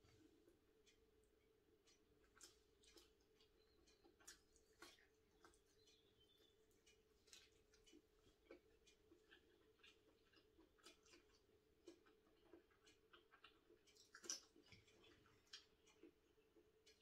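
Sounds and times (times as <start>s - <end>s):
low steady hum: 0.0s - 17.0s
chewing and lip-smacking: 0.9s - 17.0s.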